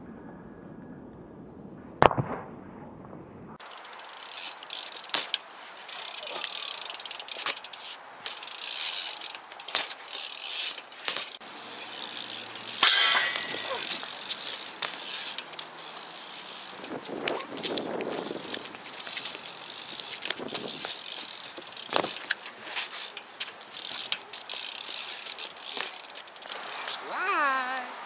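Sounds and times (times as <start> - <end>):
bicycle hub ratcheting: 3.6 - 27.0.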